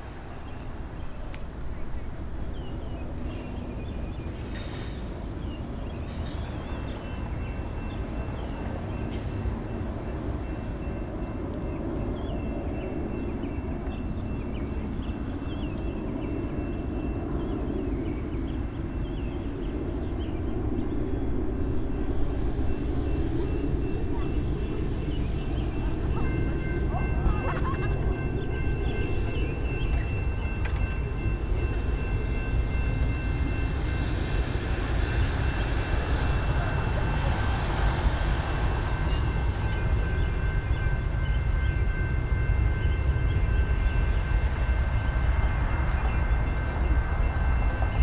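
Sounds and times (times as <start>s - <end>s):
diesel train rumbling: 0.0s - 48.0s.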